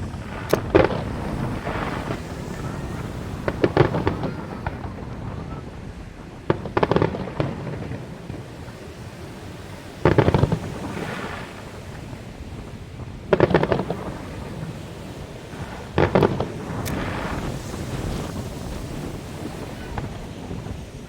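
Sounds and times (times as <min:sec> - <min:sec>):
fireworks bursting with sharp bangs: 0:00.0 - 0:21.0.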